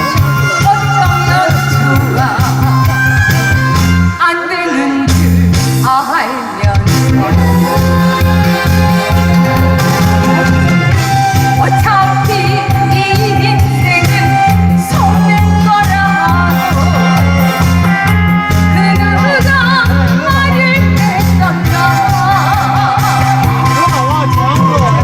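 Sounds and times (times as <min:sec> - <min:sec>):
woman singing with vibrato: 0:00.0 - 0:23.8
accompaniment track with bass beat: 0:00.0 - 0:25.0.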